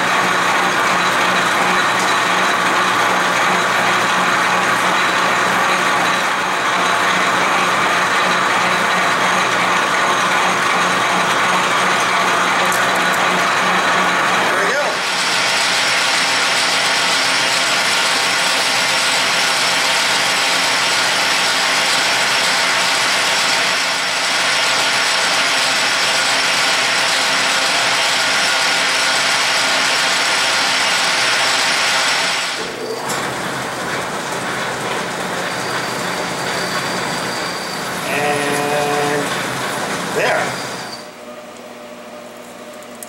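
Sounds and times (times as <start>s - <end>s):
metal lathe gear whirring: 0.0s - 41.2s.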